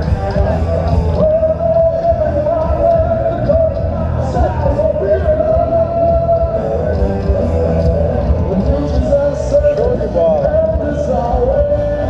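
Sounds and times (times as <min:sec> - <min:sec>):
person singing: 0:00.0 - 0:12.0
rock music with bass beat: 0:00.0 - 0:12.0.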